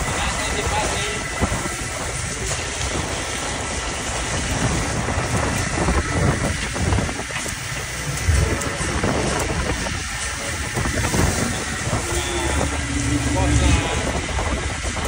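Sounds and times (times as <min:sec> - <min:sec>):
boat engine rumble: 0:00.0 - 0:15.0
water rushing: 0:00.0 - 0:15.0
wind: 0:00.0 - 0:15.0.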